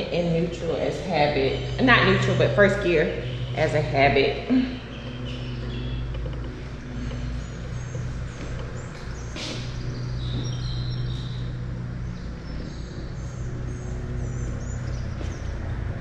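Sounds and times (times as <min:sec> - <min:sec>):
motorcycle engine idling: 0:00.0 - 0:16.0
small birds chirping: 0:00.0 - 0:16.0.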